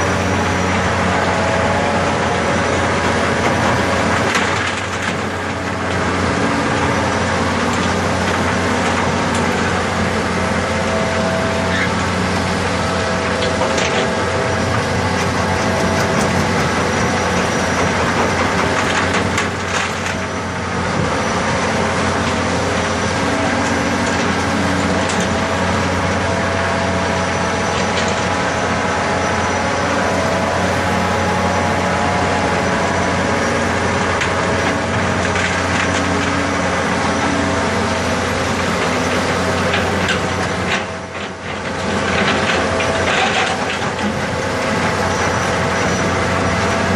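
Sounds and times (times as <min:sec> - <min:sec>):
digger engine running: 0:00.0 - 0:46.9
high machine whine: 0:00.0 - 0:46.9.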